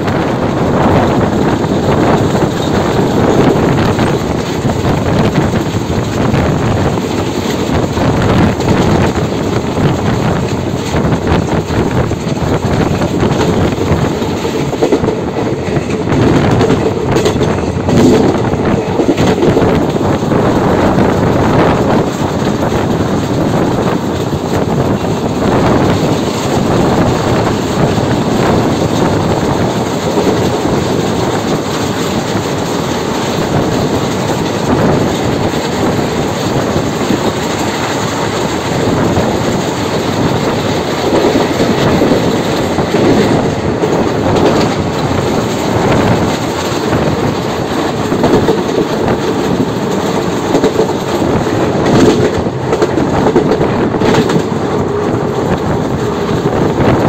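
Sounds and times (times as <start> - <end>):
train wheels rumbling on rail: 0.0 - 57.0
wheels clattering over rail joints: 0.0 - 57.0.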